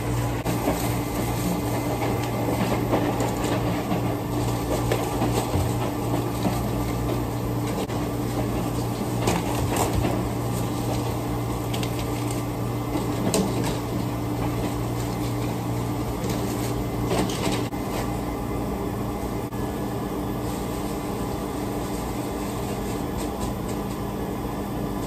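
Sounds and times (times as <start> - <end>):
kitchen equipment hum: 0.0 - 25.0.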